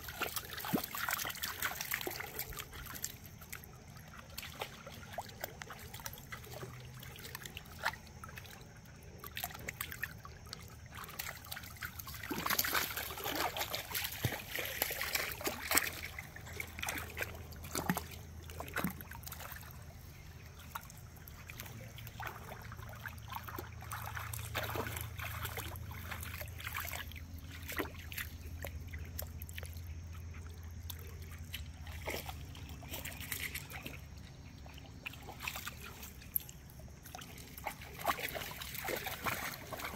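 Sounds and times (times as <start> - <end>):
dog splashing through water: 0.0 - 8.6, 9.2 - 39.9
stream trickling: 0.0 - 39.9.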